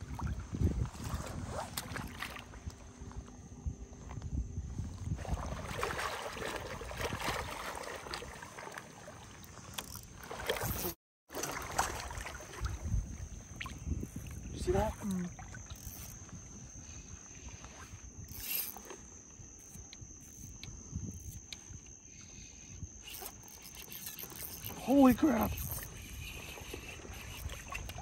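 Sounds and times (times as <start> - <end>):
water sloshing around wading person: 0.0 - 3.3, 4.8 - 19.4, 23.1 - 28.0.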